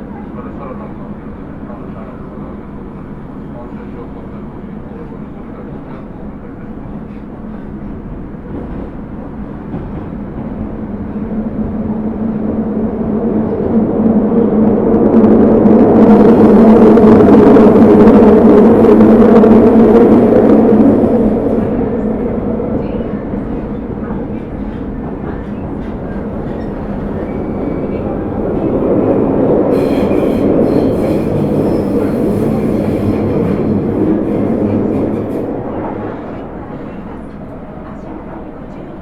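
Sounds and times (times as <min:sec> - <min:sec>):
subway train rumbling: 0:00.0 - 0:39.0.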